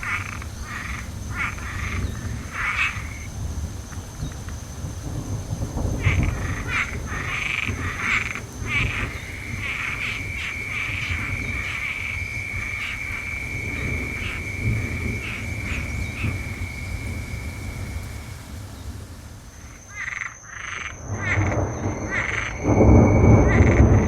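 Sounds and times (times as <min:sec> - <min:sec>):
frogs croaking in chorus: 0:00.0 - 0:24.0.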